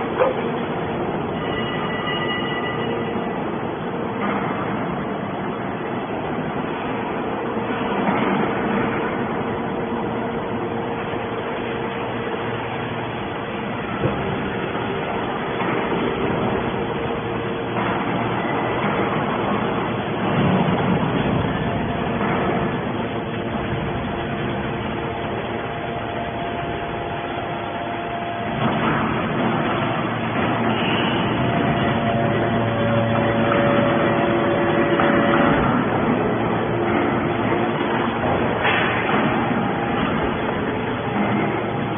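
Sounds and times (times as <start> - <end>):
baler mechanical drone: 0.0 - 41.9.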